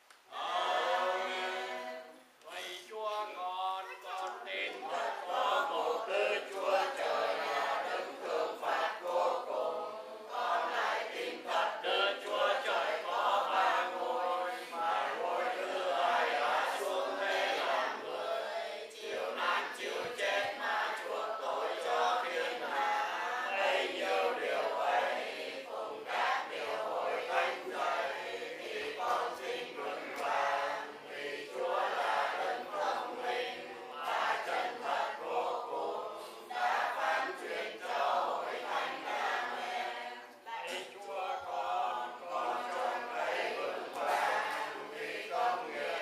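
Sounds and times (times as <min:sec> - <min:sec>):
people chanting prayers in unison: 0:00.3 - 0:46.0.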